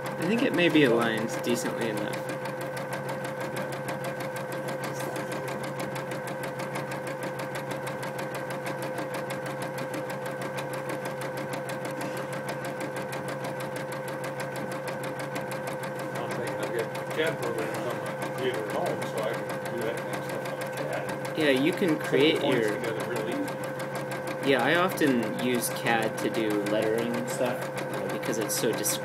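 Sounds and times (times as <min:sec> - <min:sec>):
machine needle stitching: 0:00.0 - 0:29.0
motor hum: 0:00.0 - 0:29.0.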